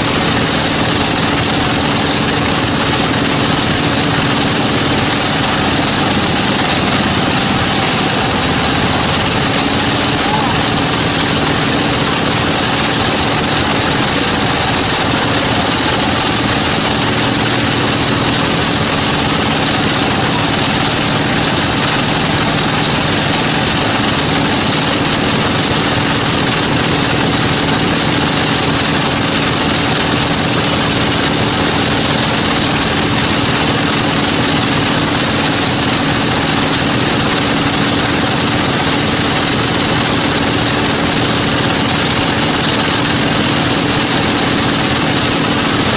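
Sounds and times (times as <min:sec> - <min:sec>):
sawmill machinery humming: 0:00.0 - 0:45.9.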